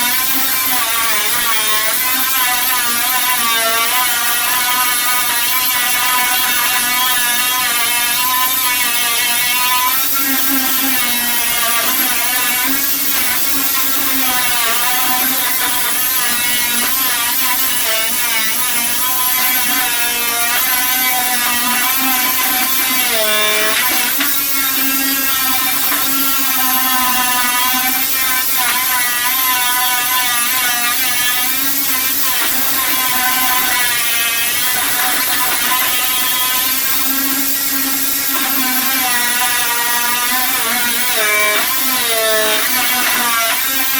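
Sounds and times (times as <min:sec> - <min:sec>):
power tool motor under load: 0:00.0 - 0:43.9.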